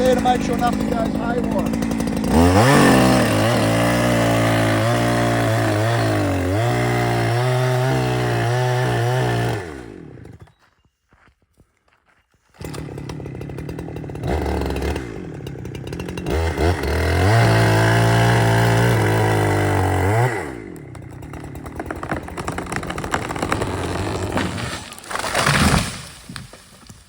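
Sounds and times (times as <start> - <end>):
chainsaw running and revving: 0.0 - 10.5, 12.6 - 26.6.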